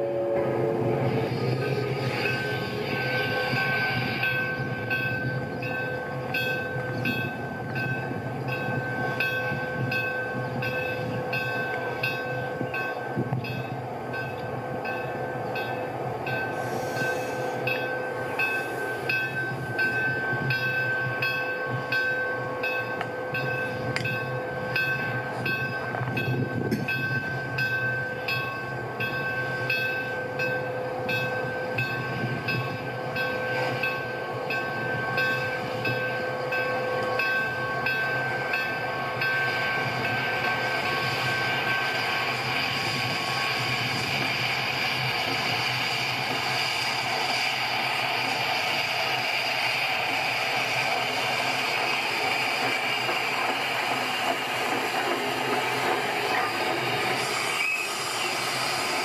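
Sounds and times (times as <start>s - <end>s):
train running hum: 0.0s - 59.0s.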